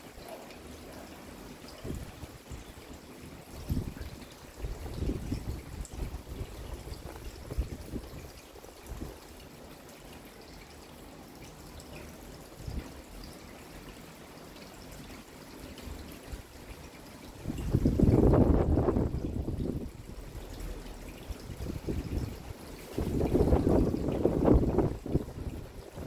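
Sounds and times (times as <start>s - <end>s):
rain falling: 0.0s - 26.0s
water trickling and dripping: 0.0s - 26.0s.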